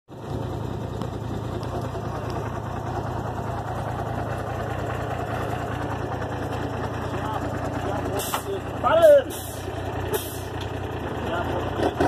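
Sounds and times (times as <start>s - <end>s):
truck engine idling: 0.1s - 12.0s.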